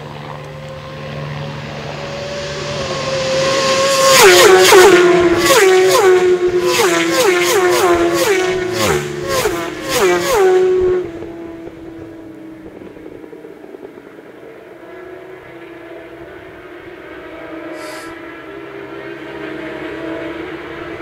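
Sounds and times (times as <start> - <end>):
faint engine drone: 0.0 - 21.0
racing motorcycles passing: 0.0 - 21.0.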